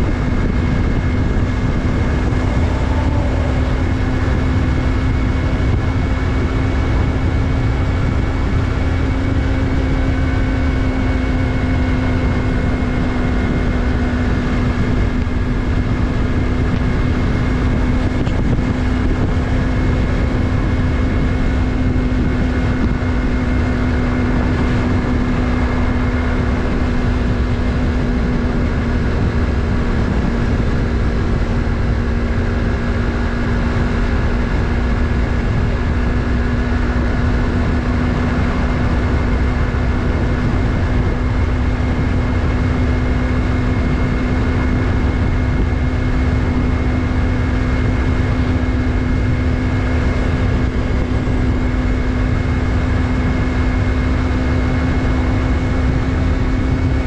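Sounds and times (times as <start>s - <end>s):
low wind rush: 0.0s - 57.0s
motorcycle engine droning: 0.0s - 57.0s.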